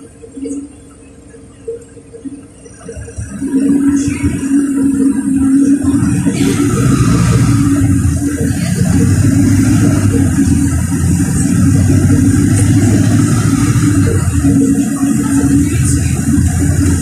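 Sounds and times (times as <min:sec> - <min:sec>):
bus diesel engine droning: 0:00.0 - 0:17.0
road noise: 0:00.0 - 0:17.0.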